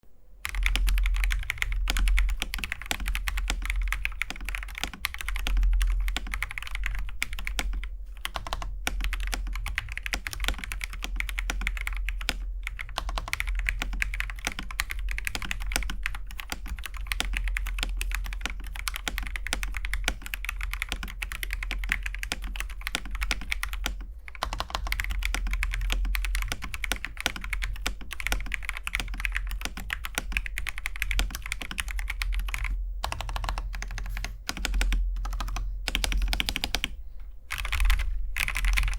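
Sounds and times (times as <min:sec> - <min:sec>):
mechanical keyboard typing: 0:00.4 - 0:38.9.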